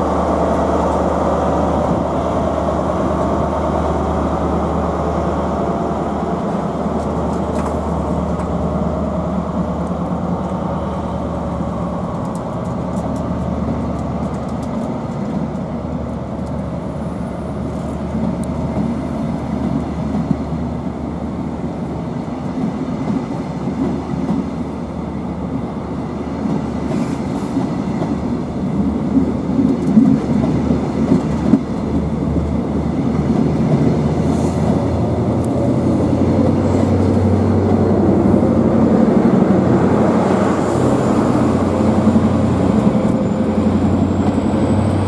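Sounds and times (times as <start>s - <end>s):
diesel engine drone: 0.0s - 27.6s, 28.2s - 45.0s.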